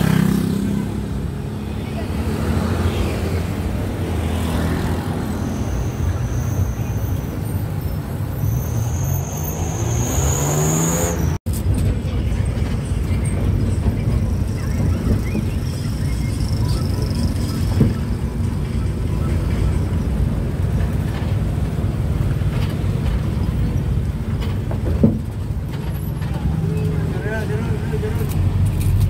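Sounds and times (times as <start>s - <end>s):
road and traffic noise: 0.0s - 29.0s.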